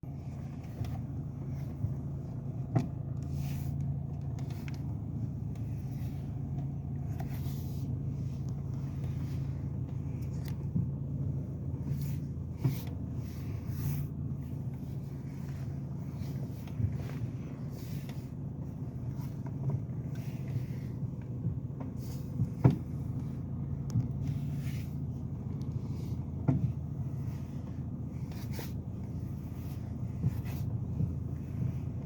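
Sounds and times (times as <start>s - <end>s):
car engine hum: 0.0s - 32.0s.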